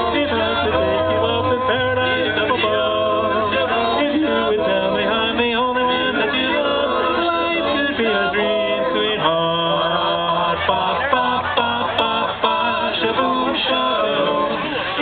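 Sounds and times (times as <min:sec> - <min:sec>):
male vocal group singing harmony: 0:00.0 - 0:15.0.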